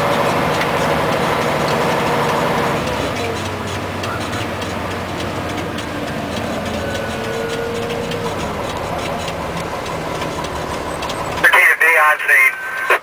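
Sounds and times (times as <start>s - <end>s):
rain hitting windshield: 0.0s - 13.0s
truck engine hum: 0.0s - 13.0s.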